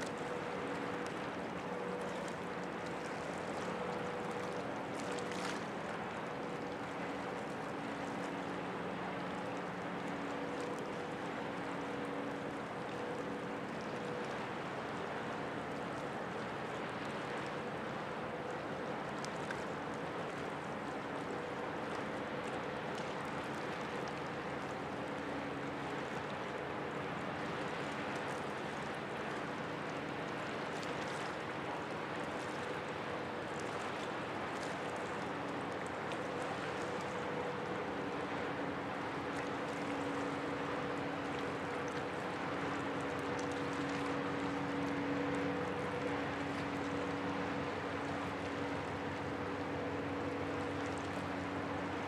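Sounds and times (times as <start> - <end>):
rush of water: 0.0 - 52.0
ship machinery hum: 0.1 - 52.0.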